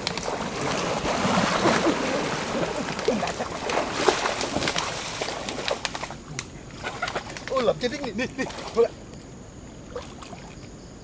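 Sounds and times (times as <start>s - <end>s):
water sloshing around wading legs: 0.0s - 8.9s, 9.8s - 10.7s.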